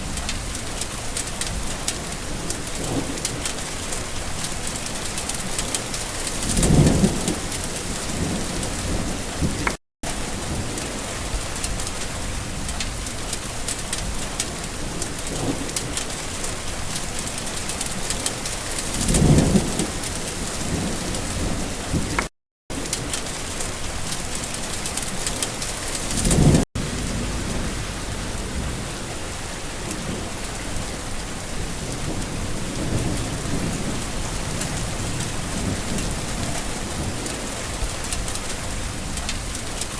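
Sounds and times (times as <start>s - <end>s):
steady rain falling: 0.0s - 39.9s
thunder rumbling: 0.0s - 39.9s.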